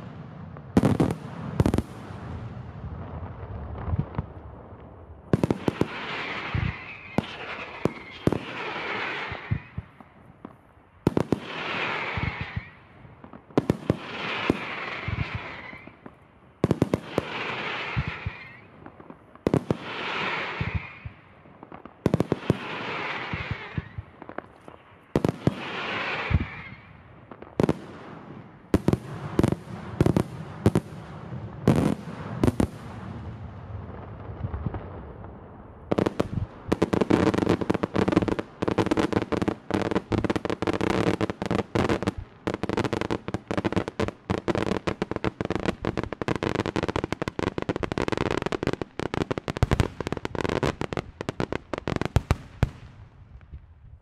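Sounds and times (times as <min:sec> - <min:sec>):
fireworks bursting with bangs: 0:00.0 - 0:54.0
fireworks crackling: 0:00.0 - 0:54.0.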